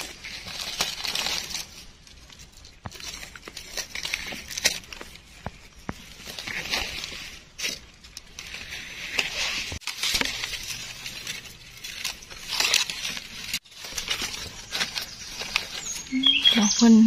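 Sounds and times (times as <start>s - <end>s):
dry leaves crunching and rustling: 0.0s - 17.0s.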